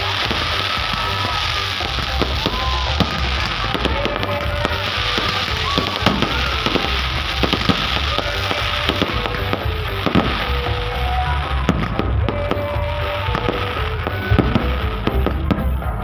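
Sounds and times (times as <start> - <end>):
fireworks crackling and banging: 0.0 - 16.0
music playing: 0.0 - 16.0.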